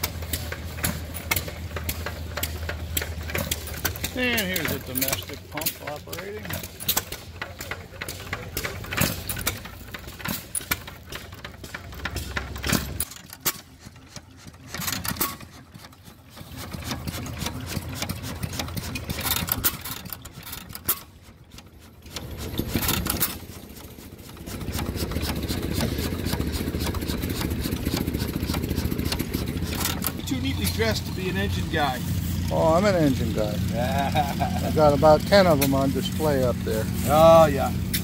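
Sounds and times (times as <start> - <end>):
gas engines beating: 0.0 - 38.0
steady engine sound: 0.0 - 38.0.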